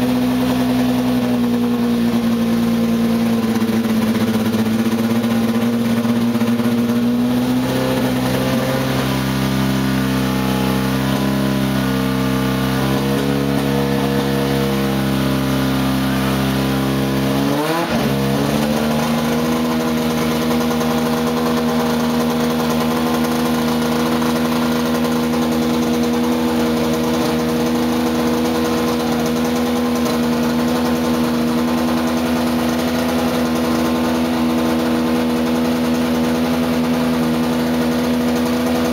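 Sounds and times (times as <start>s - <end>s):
racing car engine running: 0.0s - 38.9s.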